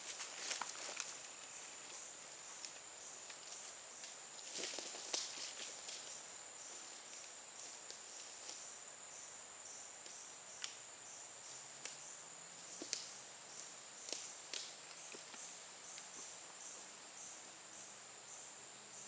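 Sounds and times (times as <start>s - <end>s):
insects droning trill: 0.0s - 19.0s.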